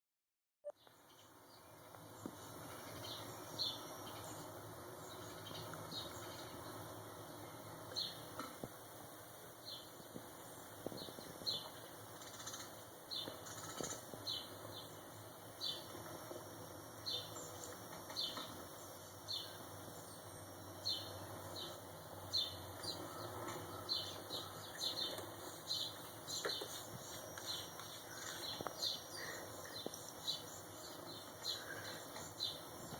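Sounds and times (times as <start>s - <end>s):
small birds chirping: 0.6s - 8.8s, 9.5s - 32.9s.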